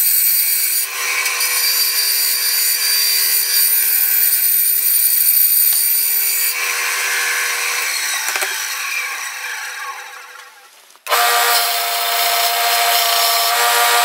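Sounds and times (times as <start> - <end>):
electric saw cutting wood: 0.0 - 14.0.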